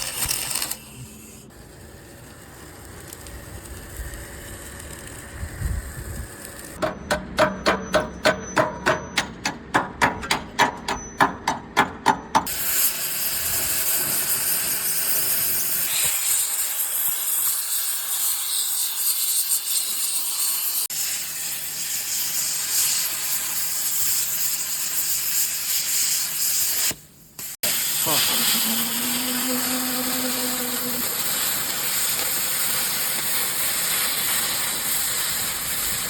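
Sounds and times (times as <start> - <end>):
welding arc sizzling: 0.0 - 6.8, 12.5 - 36.0
welding arc strikes: 0.0 - 36.0.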